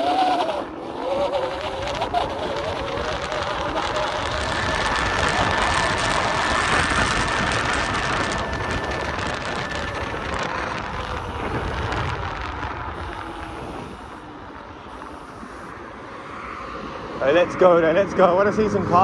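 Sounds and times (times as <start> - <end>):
faint high whine: 0.0 - 18.6
road noise: 0.0 - 19.0
wind over microphone: 0.0 - 19.0.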